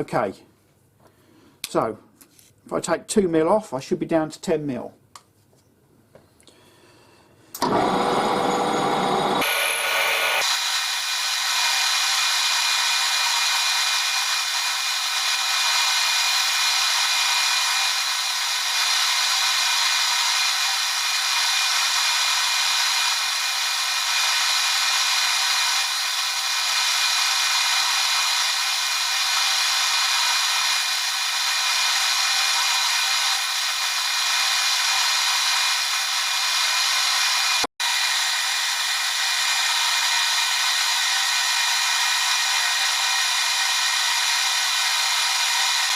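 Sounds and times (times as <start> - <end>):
lathe whirring: 7.6 - 45.9.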